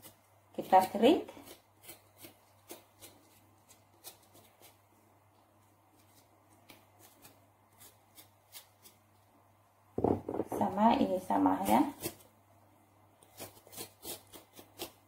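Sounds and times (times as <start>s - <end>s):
knife scraping ginger skin: 0.0s - 4.9s, 5.6s - 9.3s, 10.6s - 12.3s, 13.2s - 15.0s.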